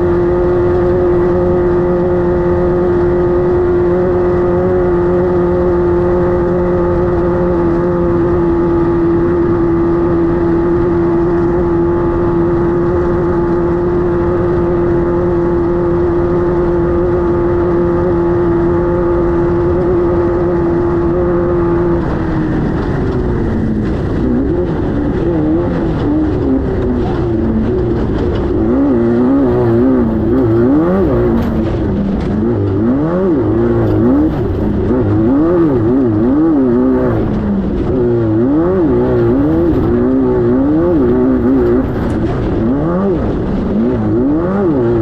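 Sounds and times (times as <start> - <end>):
race car engine running hard: 0.0 - 45.0.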